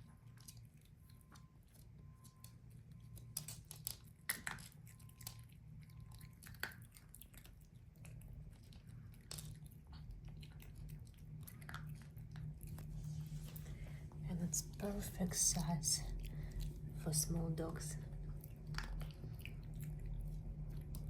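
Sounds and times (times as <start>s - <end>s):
dog crunching dry kibble: 0.0s - 21.0s.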